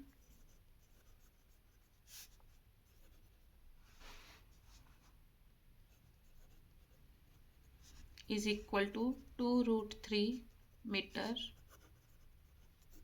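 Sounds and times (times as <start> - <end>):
pen scratching on paper: 0.1 - 3.5, 5.9 - 13.0.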